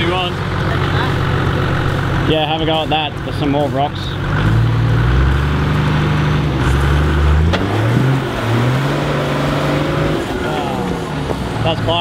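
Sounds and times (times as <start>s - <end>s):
engine working under load: 0.0s - 12.0s.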